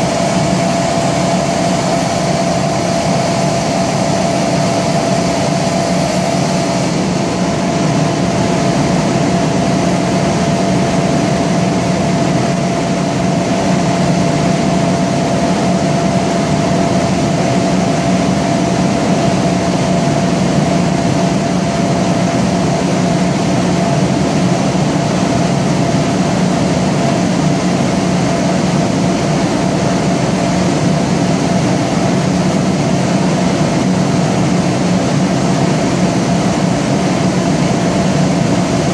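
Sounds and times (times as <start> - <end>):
air compressor idling: 0.0 - 38.9.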